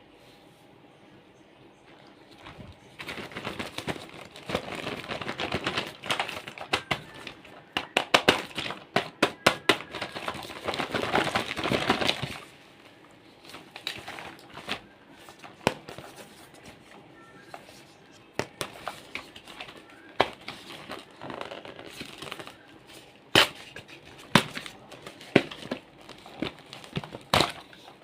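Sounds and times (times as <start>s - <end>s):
crinkling handling noise: 1.8s - 28.0s.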